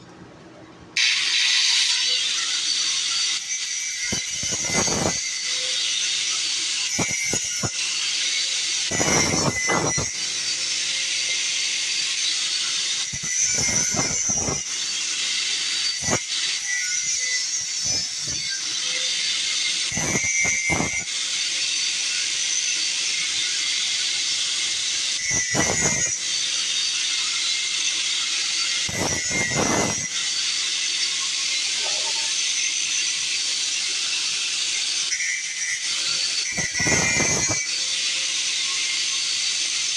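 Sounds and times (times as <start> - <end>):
welding arc crackling hiss: 1.0 - 39.9.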